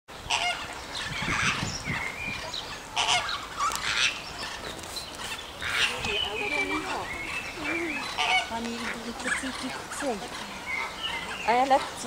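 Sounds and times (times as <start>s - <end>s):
flamingos honking: 0.2s - 12.0s.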